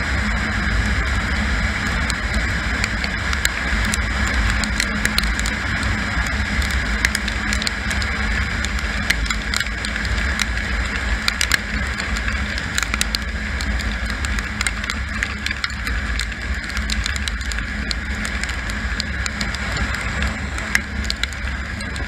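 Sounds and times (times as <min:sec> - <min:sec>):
motorcycle engine running: 0:00.0 - 0:22.0
raindrops ticking on camera: 0:00.1 - 0:22.0.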